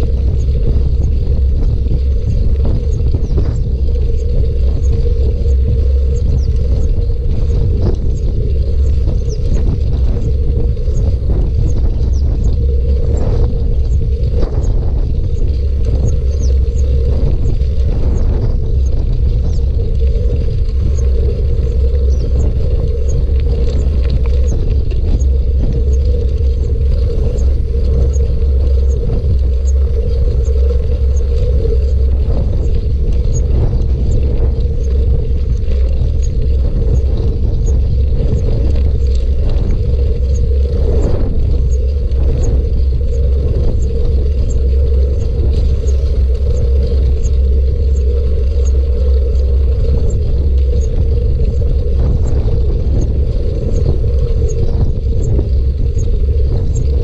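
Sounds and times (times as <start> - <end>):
faint high ticking: 0.0 - 57.0
wind and tyre rumble: 0.0 - 57.0.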